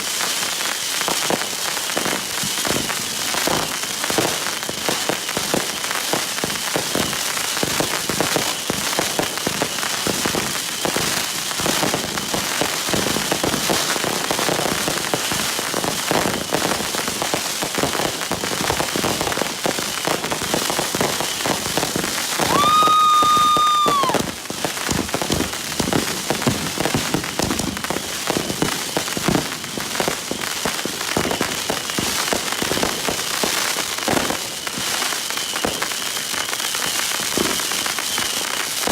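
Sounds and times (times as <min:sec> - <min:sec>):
fireworks crackling and popping: 0:00.0 - 0:38.9.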